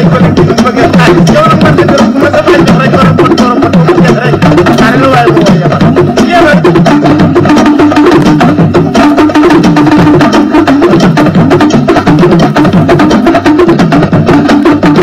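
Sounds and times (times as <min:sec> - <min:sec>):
loud dance music: 0:00.0 - 0:15.0.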